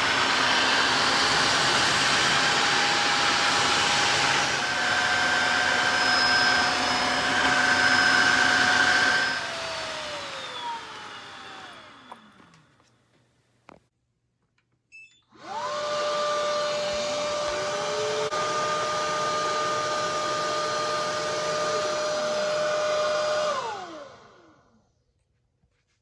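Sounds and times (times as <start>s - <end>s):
floor cleaner motor whining: 0.0s - 13.0s, 15.4s - 24.8s.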